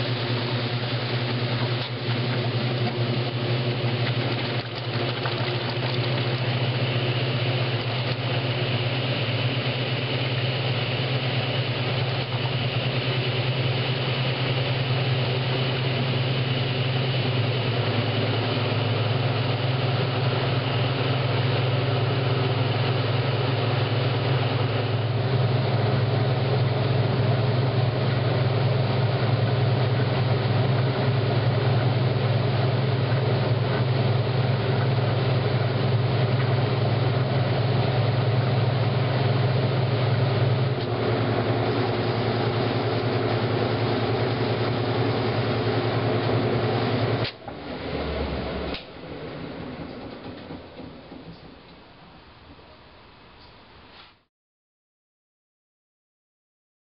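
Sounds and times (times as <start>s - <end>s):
washing machine motor humming: 0.0s - 53.9s.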